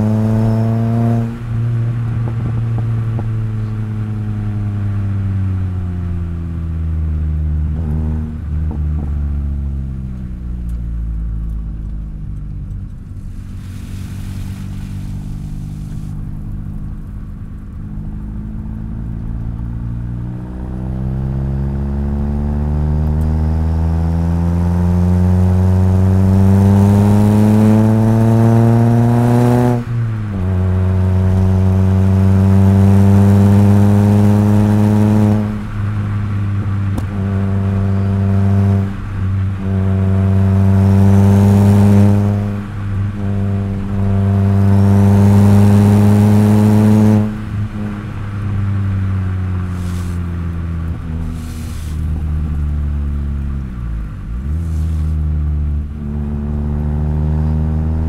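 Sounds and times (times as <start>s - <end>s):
car engine and exhaust under load: 0.0s - 58.0s.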